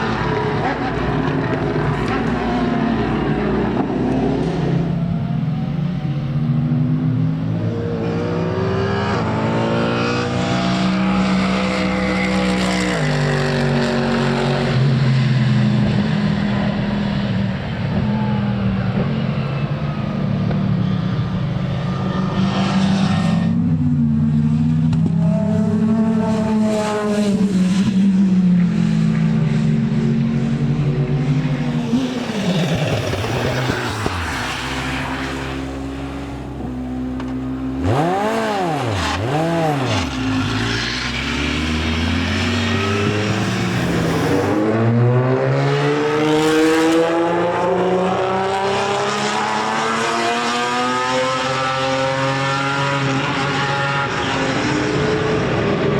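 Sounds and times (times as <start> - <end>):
racing car engines passing: 0.0 - 55.9.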